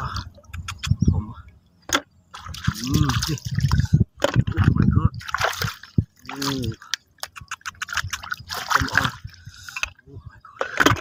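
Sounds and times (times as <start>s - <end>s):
water splashing and trickling: 1.9s - 11.0s.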